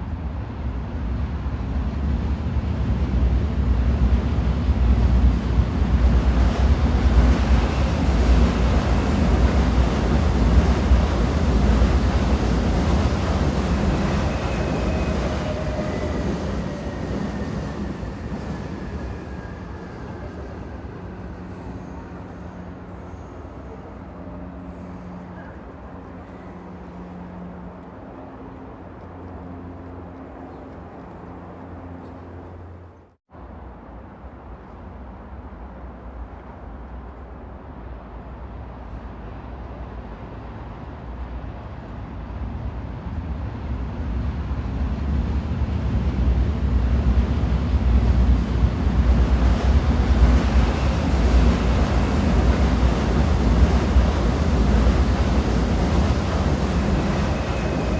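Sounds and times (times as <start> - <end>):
train rumbling on rails: 0.0 - 57.9.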